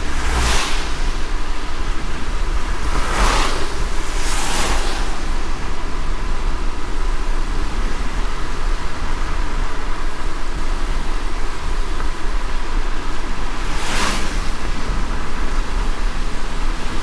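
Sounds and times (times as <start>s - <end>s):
rain hiss: 0.0s - 17.0s
road rumble: 0.0s - 17.0s
tyres on wet road: 0.0s - 17.0s.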